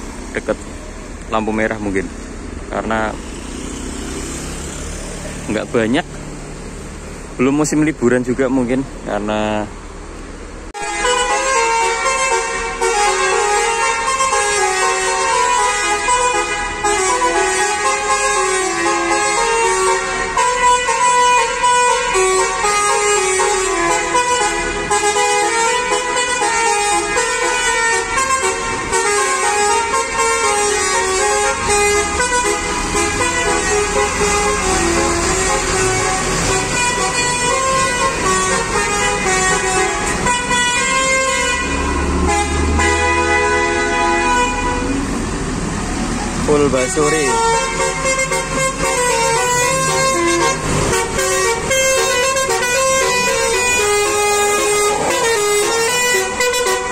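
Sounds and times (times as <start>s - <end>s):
multi-tone bus horns melody: 0.0s - 6.0s, 10.6s - 56.9s
diesel bus engine rumble: 0.0s - 56.9s.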